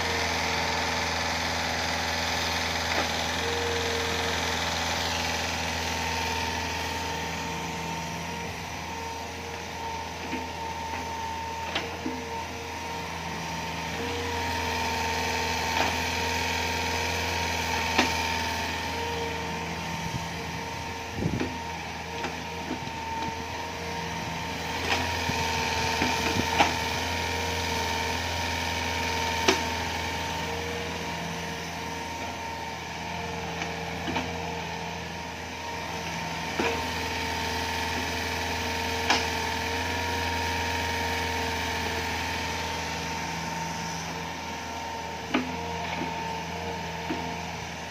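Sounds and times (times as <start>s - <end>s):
diesel engine running: 0.0s - 47.9s
hydraulic whine: 0.0s - 47.9s.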